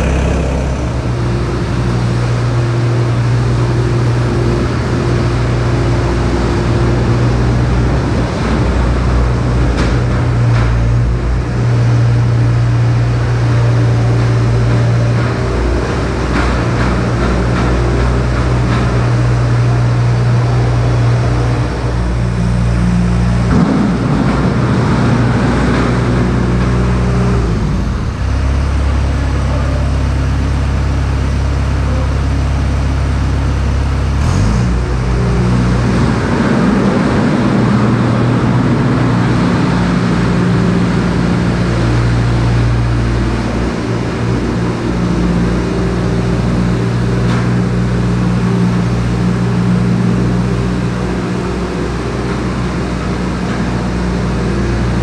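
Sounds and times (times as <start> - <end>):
diesel engine running under throttle: 0.0 - 55.0.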